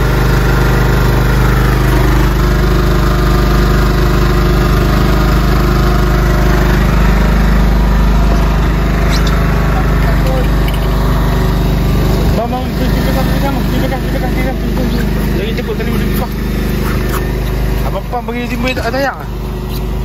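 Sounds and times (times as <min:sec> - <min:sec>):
boat engine running slowly: 0:00.0 - 0:20.0.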